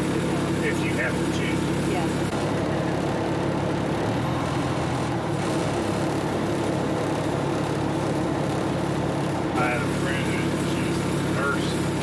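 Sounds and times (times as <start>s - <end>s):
fire truck engine droning: 0.0s - 12.0s.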